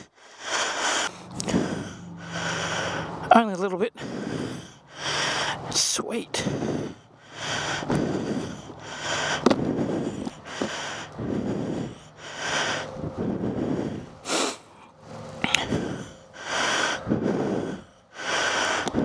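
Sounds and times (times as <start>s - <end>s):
person breathing heavily: 0.0s - 19.0s.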